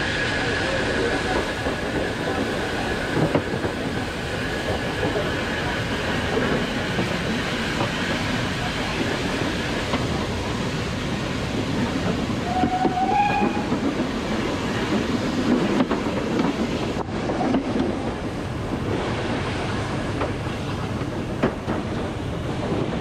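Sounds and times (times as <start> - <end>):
steam locomotive rumbling: 0.0 - 23.0.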